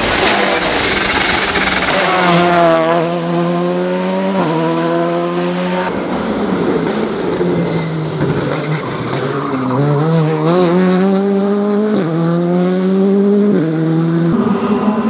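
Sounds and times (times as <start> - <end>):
rally car approaching: 0.0 - 15.0
rally car engine at high revs: 0.0 - 15.0.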